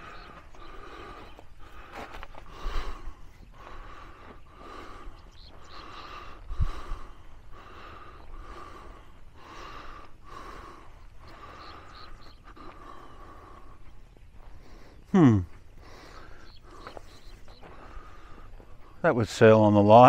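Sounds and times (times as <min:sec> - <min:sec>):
heavy breathing: 0:00.0 - 0:19.0.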